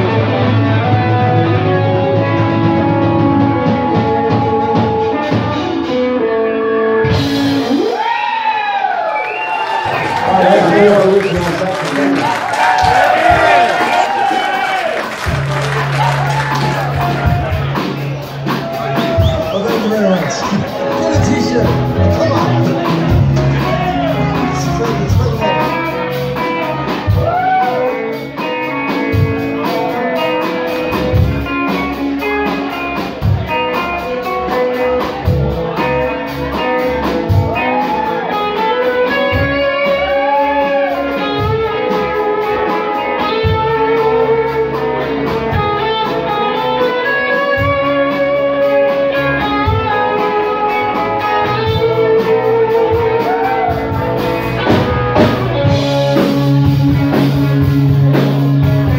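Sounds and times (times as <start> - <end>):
electric guitar bluesy lead: 0.0 - 8.0, 9.7 - 58.9
bass and drums: 0.0 - 8.2, 9.4 - 58.9.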